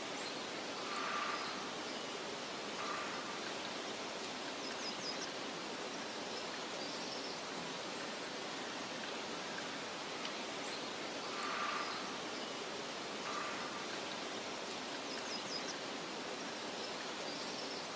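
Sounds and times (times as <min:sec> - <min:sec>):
soft wind rustling: 0:00.0 - 0:17.9.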